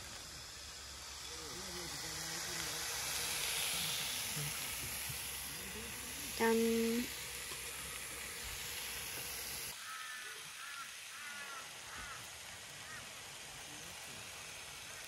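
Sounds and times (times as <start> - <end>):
skewers sizzling in a frying pan: 0.0 - 15.0.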